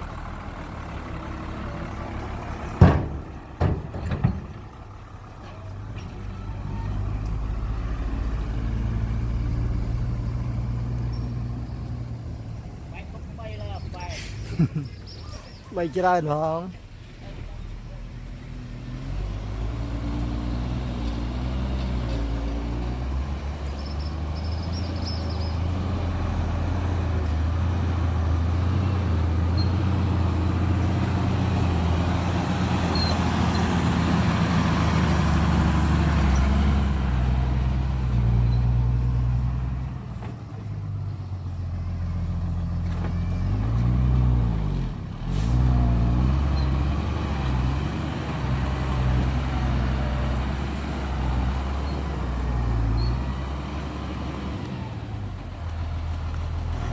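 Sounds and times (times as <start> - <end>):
heavy diesel engine revving: 4.5 - 14.7, 17.2 - 40.0, 40.7 - 56.9.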